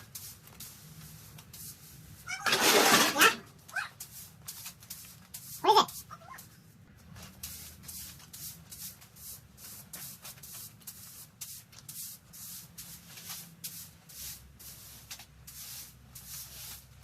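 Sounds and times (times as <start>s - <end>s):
rubbing swishes on floor: 0.0s - 17.0s.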